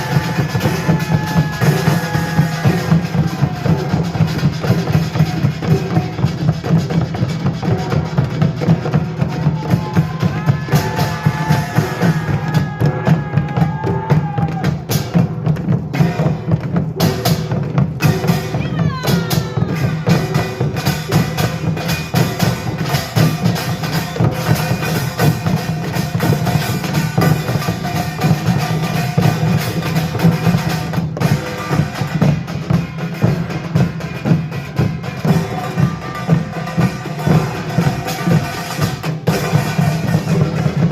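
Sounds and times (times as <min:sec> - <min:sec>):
percussion ensemble drums: 0:00.0 - 0:40.9.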